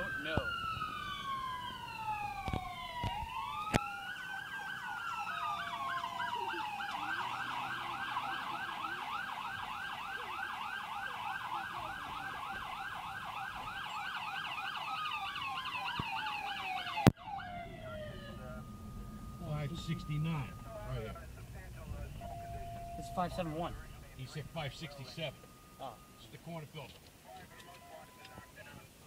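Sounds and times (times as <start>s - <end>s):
fire siren wailing and yelping: 0.0s - 26.6s.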